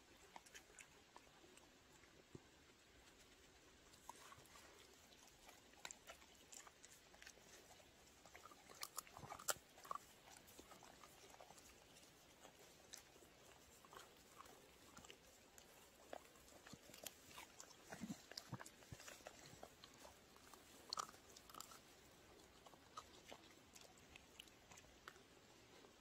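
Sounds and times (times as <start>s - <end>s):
dog chewing wood: 0.0s - 26.0s.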